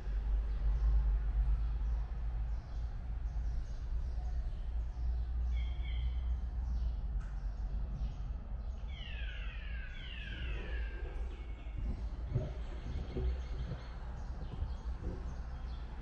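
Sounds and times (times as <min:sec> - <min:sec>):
cable car cabin rumbling: 0:00.0 - 0:16.0.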